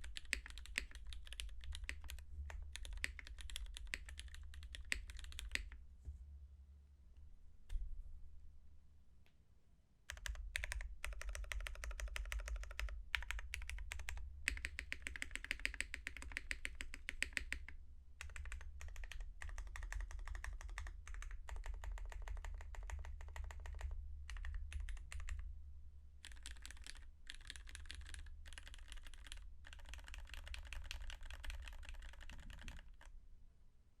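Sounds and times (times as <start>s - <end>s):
mechanical keyboard typing: 0.0s - 5.8s, 10.1s - 25.4s, 26.2s - 33.1s.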